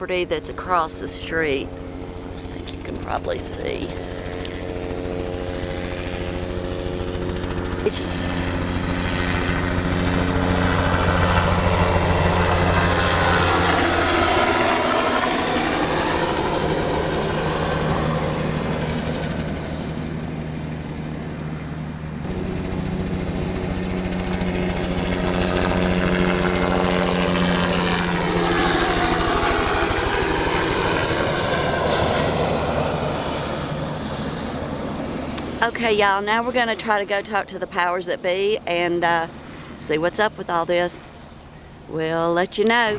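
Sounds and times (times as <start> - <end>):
helicopter flying low overhead: 0.0 - 42.9.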